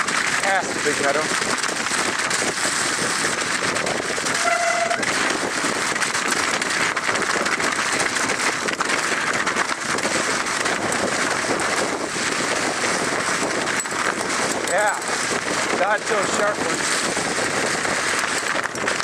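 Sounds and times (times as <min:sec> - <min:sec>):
bike rattling and clattering: 0:00.0 - 0:19.0
bike tyres rolling over slush and stones: 0:00.0 - 0:19.0.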